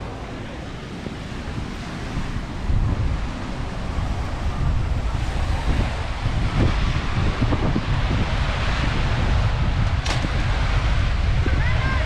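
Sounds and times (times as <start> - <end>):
ocean surf on beach: 0.0 - 12.0
wind buffeting microphone: 0.0 - 12.0.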